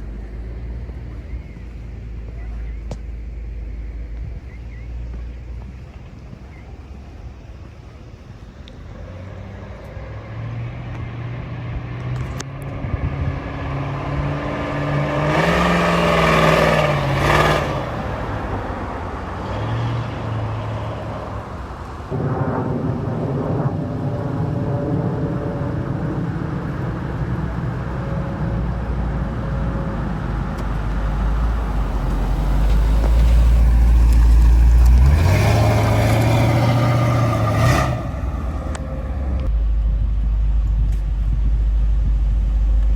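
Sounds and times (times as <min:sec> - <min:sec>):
pickup truck engine revving: 0:06.8 - 0:42.9.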